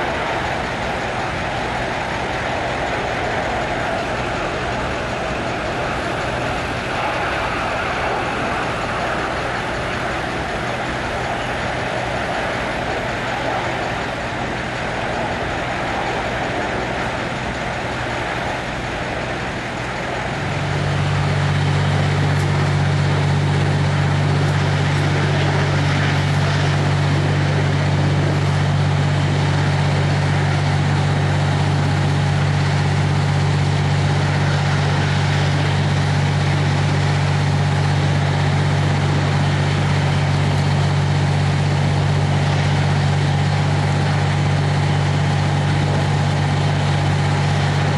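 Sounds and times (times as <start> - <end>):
deep steady hum: 0.0 - 47.9
fire truck engines running: 0.0 - 47.9
gas fire roaring: 0.0 - 47.9.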